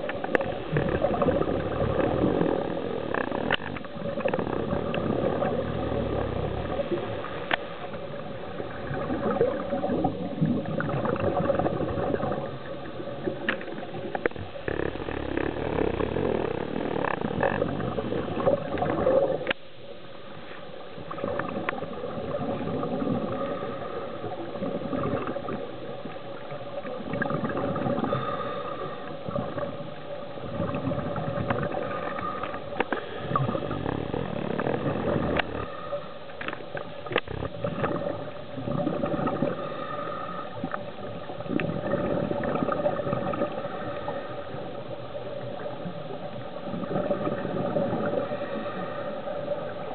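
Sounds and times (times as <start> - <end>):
faint hum: 0.0 - 49.9
underwater water rush: 0.0 - 49.9.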